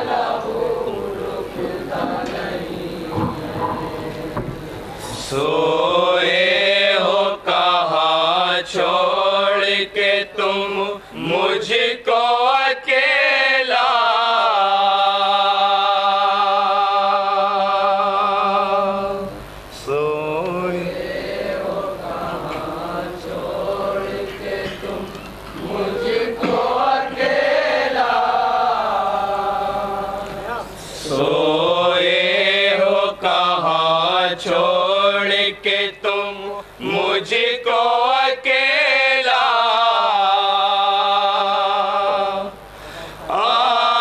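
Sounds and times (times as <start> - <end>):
men chanting into a microphone: 0.0 - 42.6, 43.2 - 44.0.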